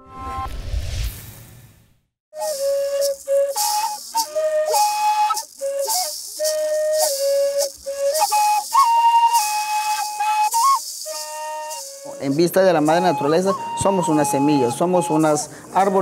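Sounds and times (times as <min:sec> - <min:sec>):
high pure-toned melody: 0:02.4 - 0:16.0
shaker rhythm: 0:02.4 - 0:16.0.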